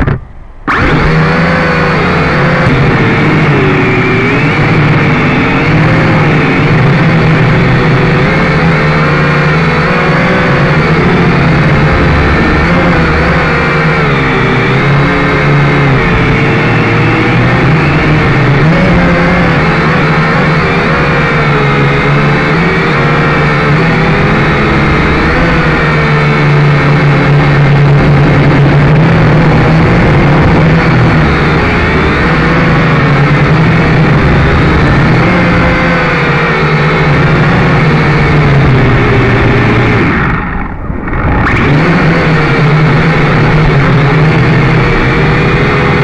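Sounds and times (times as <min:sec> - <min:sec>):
drone propellers whining: 0:00.0 - 0:46.0.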